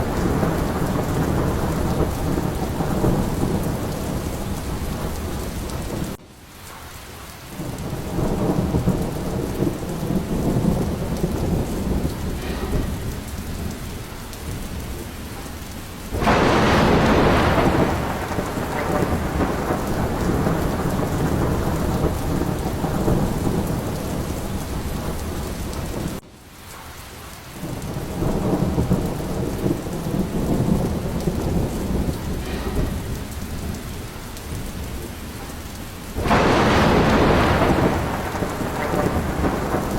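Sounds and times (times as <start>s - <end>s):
loud thunderclap: 0.0s - 6.2s, 7.6s - 26.2s, 27.6s - 39.9s
rolling thunder: 0.0s - 6.2s, 7.5s - 26.2s, 27.5s - 39.9s
steady rain: 0.0s - 39.9s.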